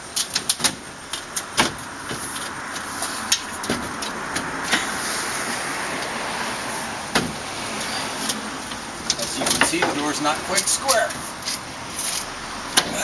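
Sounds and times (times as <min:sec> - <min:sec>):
steady rushing noise: 0:00.0 - 0:13.0
metal and glass door parts clicking: 0:00.1 - 0:04.9, 0:07.1 - 0:13.0.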